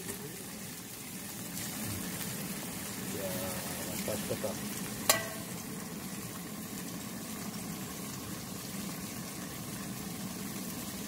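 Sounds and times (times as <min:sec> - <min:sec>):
tofu sizzling in a frying pan: 0:00.0 - 0:11.0.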